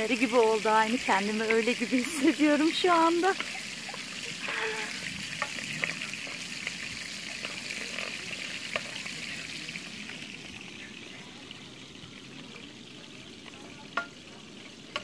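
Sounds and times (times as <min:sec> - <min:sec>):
peppers sizzling in a pan: 0:00.0 - 0:15.0.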